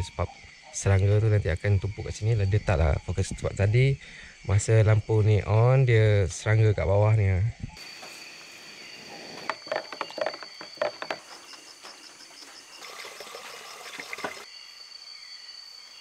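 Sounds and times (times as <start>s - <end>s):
night insects calling: 0.0s - 16.0s.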